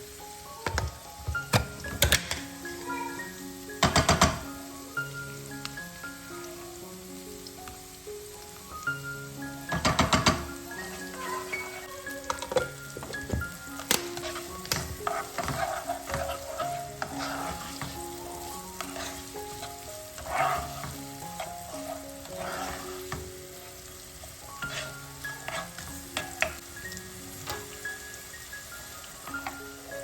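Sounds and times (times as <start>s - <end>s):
food sizzling in a pan: 0.0s - 30.0s
gentle mallet background music: 0.1s - 30.0s.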